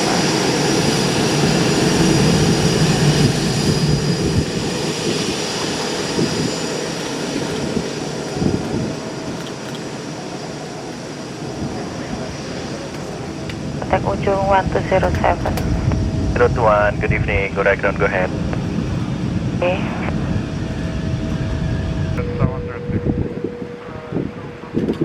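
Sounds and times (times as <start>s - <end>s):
jet engine high whine: 0.0s - 25.0s
jet engines rumbling: 0.0s - 25.0s.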